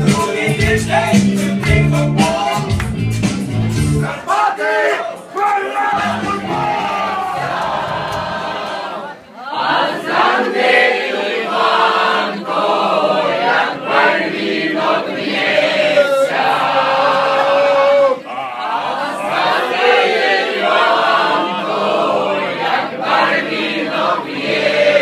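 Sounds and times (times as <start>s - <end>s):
men and women singing together: 0.0s - 2.8s, 6.0s - 25.0s.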